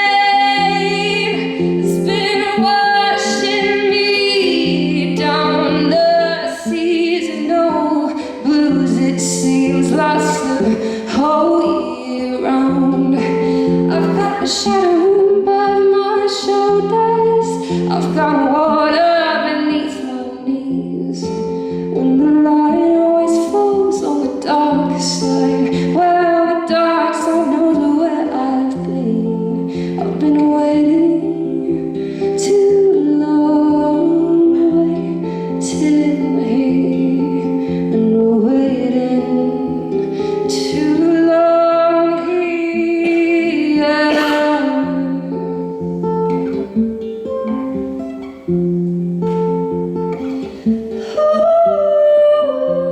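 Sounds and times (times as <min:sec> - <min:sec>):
woman singing: 0:00.0 - 0:48.3, 0:49.1 - 0:52.9
acoustic guitar: 0:00.0 - 0:52.9.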